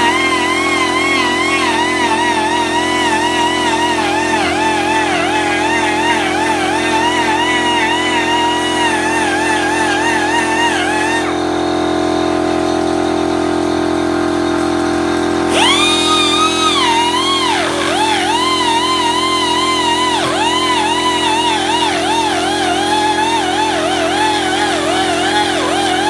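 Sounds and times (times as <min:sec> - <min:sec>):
rotary tool whining cutting wood: 0:00.0 - 0:12.6, 0:15.5 - 0:26.0.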